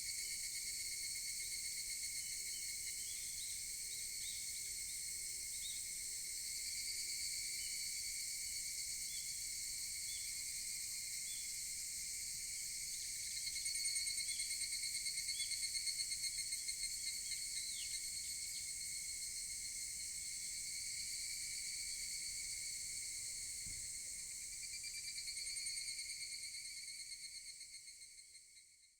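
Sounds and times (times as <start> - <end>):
cicadas chorus: 0.0 - 28.4.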